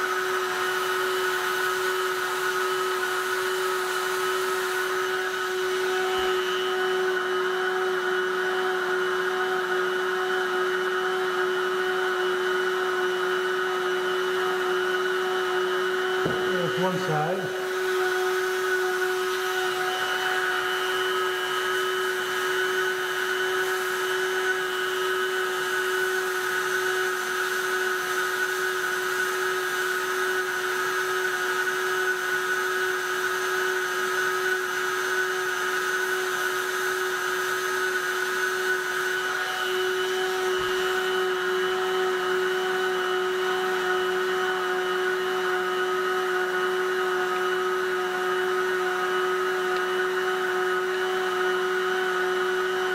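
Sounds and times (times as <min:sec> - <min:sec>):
heat gun fan whirring: 0:00.0 - 0:52.9.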